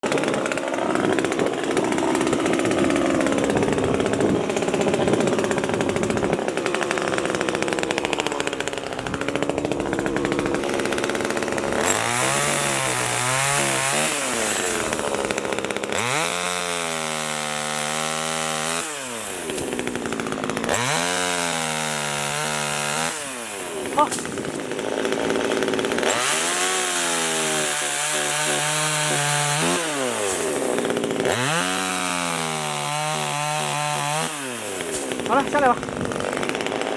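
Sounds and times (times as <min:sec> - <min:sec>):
chainsaw running and revving: 0:00.0 - 0:36.9.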